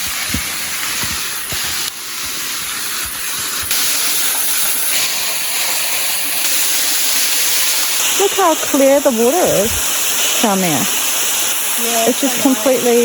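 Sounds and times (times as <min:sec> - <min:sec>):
water cascading: 0:00.0 - 0:13.0.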